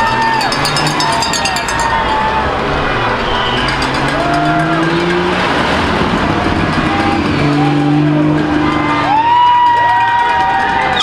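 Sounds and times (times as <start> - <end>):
car horns honking: 0.0 - 11.0
cars passing: 0.0 - 11.0.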